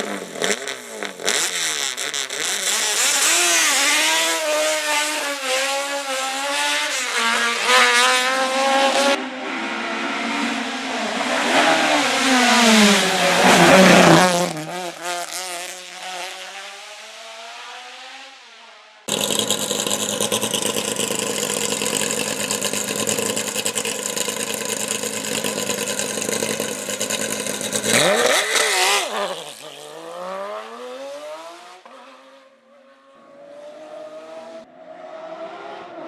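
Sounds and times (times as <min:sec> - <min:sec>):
race car engine revving: 0:00.0 - 0:18.2, 0:19.1 - 0:32.2.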